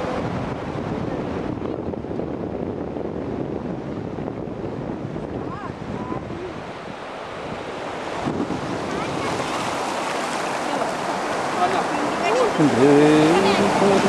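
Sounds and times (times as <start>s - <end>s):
surf washing on shore: 0.0s - 14.0s
wind buffeting microphone: 0.0s - 14.0s.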